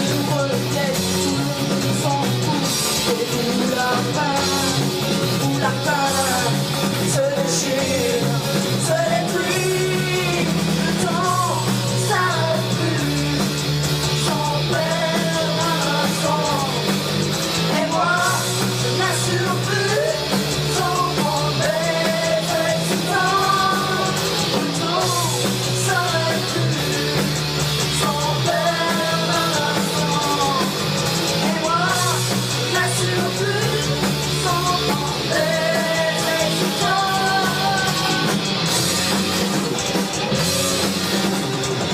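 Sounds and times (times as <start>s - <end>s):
rock song with singing: 0.0s - 41.9s.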